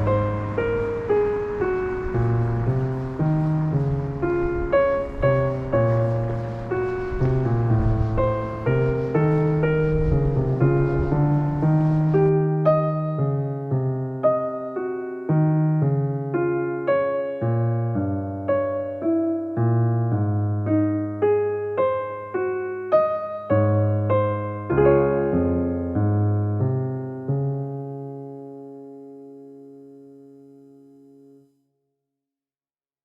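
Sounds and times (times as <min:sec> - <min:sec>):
gentle piano music: 0:00.0 - 0:31.6.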